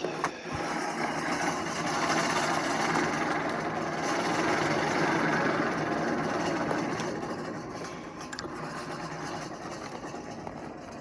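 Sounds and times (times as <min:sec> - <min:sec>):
hand-cranked blower whirring: 0:00.0 - 0:11.0.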